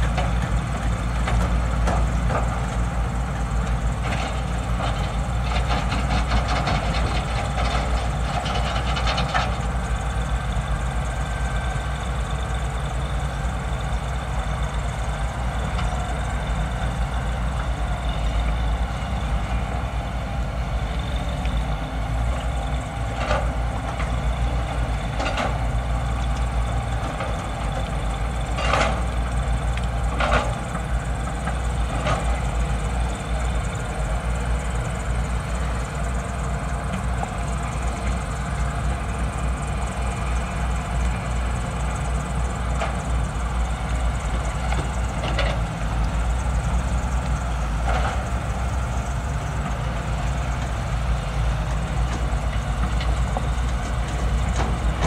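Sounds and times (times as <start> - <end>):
excavator diesel engines: 0.0 - 55.0.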